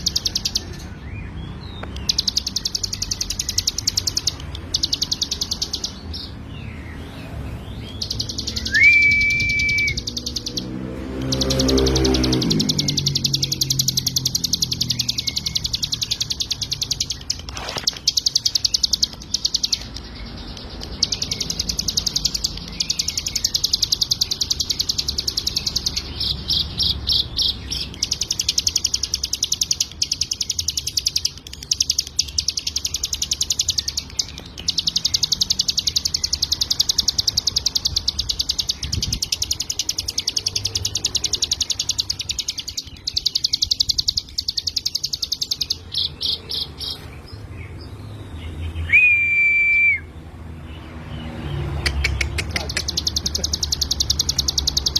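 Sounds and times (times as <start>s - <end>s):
bird rapidly chirping: 0.0s - 54.9s.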